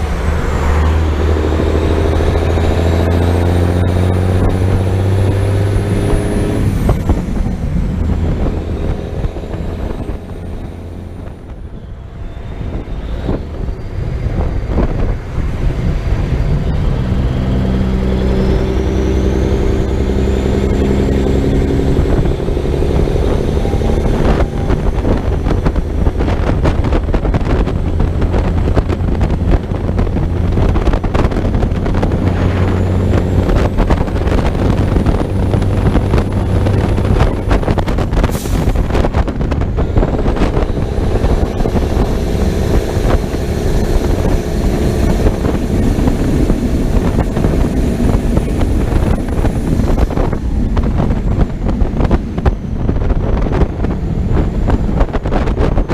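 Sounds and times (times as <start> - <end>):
truck diesel engine running: 0.0 - 55.9
tyre and wind noise: 0.0 - 55.9.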